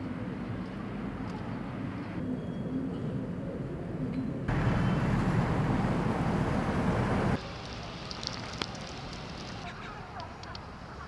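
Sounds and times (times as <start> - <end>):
outdoor rushing hiss and rumble: 0.0 - 11.0.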